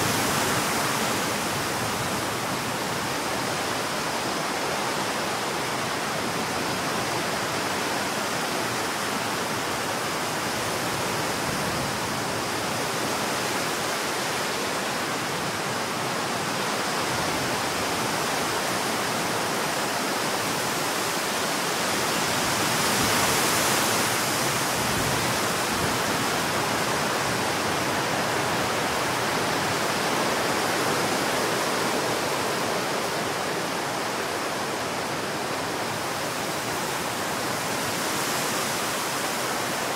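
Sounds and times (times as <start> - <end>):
storm wind rushing through trees: 0.0 - 39.9.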